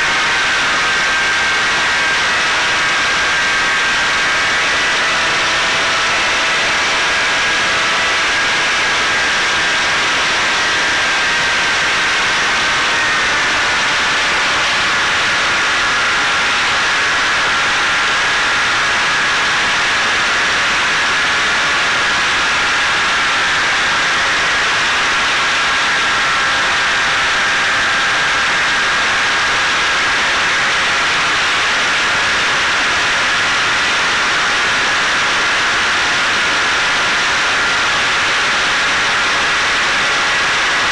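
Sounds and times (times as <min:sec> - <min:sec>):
electric motor high whine: 0:00.0 - 0:40.9.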